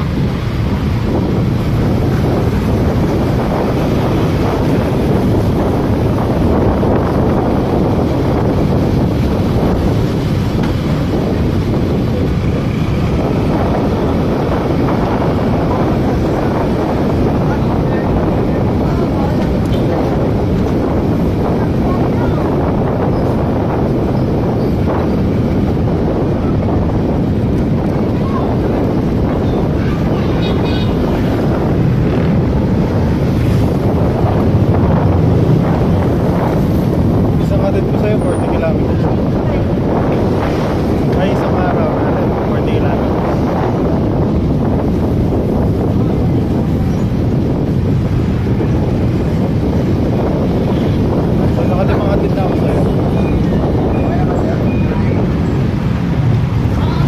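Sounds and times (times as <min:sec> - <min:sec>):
road and engine noise: 0:00.0 - 0:57.0
wind rushing over microphone: 0:00.0 - 0:57.0.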